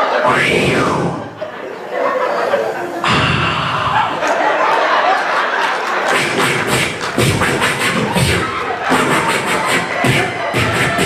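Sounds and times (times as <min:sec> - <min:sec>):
audience laughing and cheering: 0:00.0 - 0:11.0.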